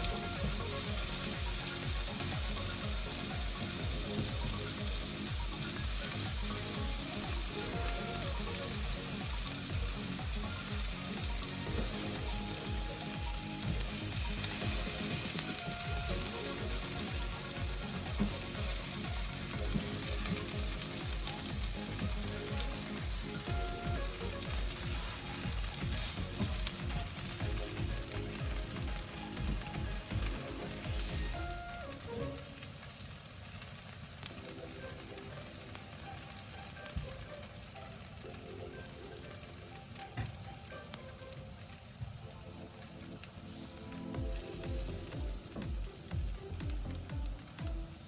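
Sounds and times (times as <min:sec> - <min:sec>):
food sizzling in a pan: 0:00.0 - 0:48.0.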